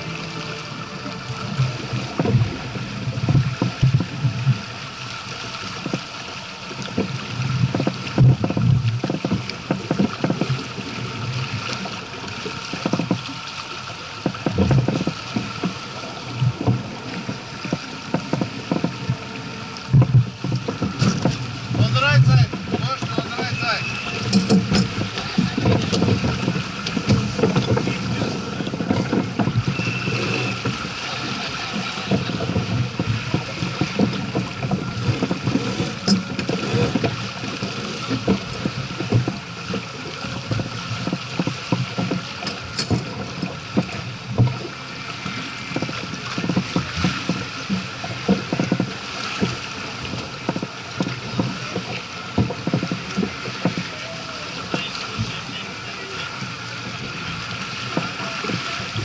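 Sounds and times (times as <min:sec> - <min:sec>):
water splashing along hull: 0:00.0 - 0:59.0.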